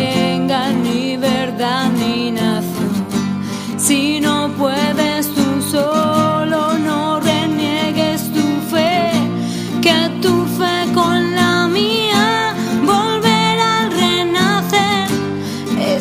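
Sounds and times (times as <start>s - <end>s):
strummed guitar: 0.0s - 16.0s.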